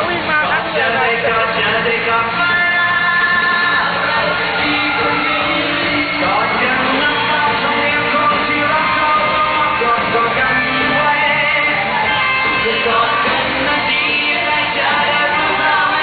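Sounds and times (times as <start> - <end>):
live band playing pop: 0.0 - 16.0
person singing: 1.1 - 16.0.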